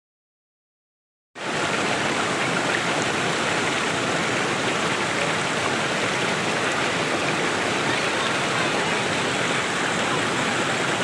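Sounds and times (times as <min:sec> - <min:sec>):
stream water rushing: 0:01.4 - 0:11.0.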